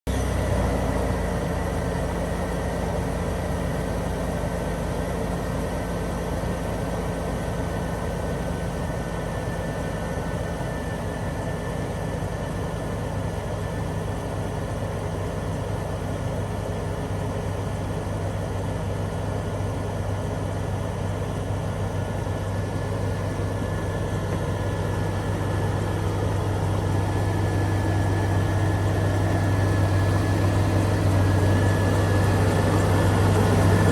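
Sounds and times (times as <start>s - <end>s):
car engine humming: 0.1s - 33.9s.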